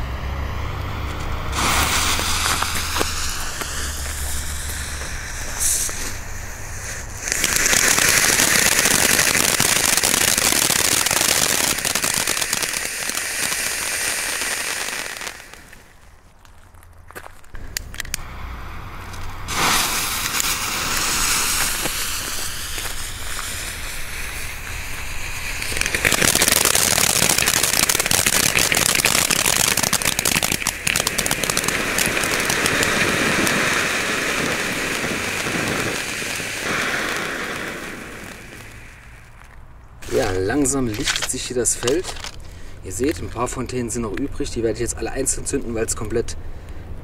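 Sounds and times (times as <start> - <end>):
fountain fireworks hissing and crackling: 1.0 - 16.0, 17.8 - 46.3.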